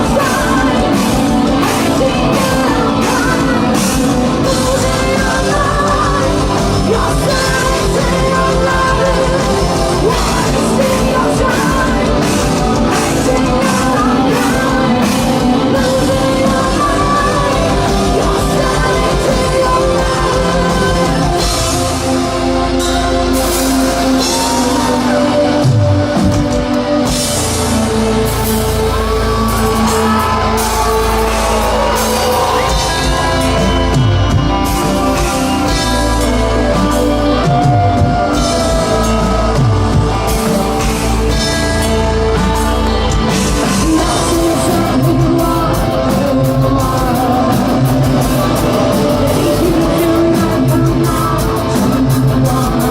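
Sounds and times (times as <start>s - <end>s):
heavy metal band playing: 0.0s - 52.9s
person singing: 0.0s - 52.9s.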